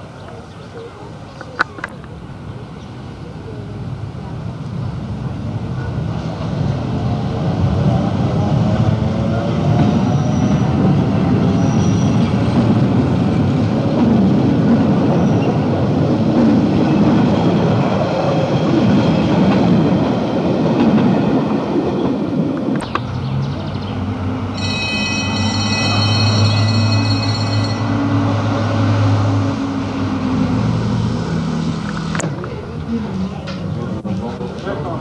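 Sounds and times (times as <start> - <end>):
train wheels rumbling on rails: 1.4 - 35.0.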